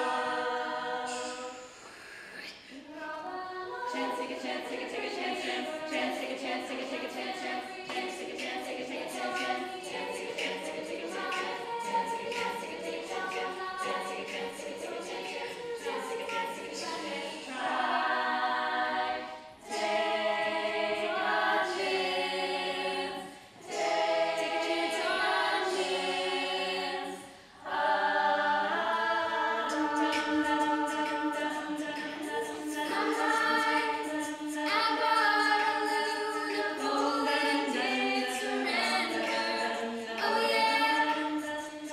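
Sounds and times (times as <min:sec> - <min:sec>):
women singing in harmony: 0:00.0 - 0:41.9.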